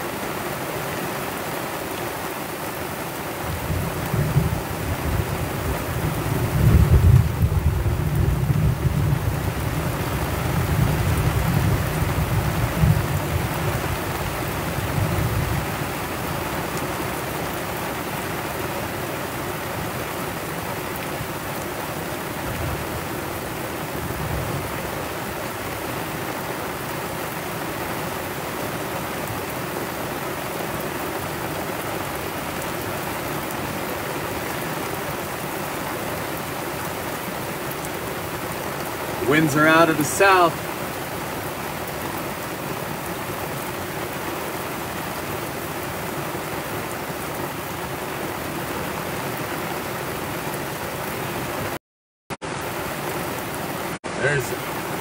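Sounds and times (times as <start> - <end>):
heavy rain pouring: 0.0 - 51.8, 52.4 - 55.0.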